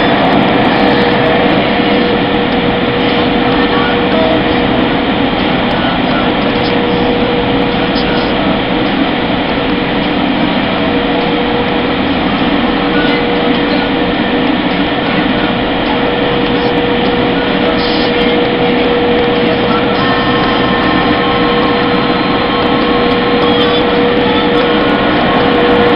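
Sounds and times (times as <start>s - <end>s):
air dryer blowers rushing: 0.0s - 25.9s.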